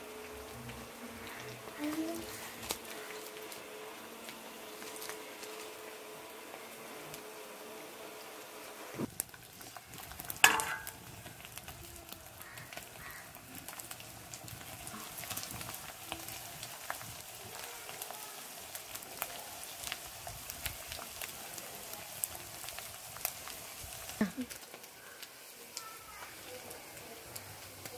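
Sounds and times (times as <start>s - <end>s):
potatoes sizzling in hot oil: 0.0s - 27.9s.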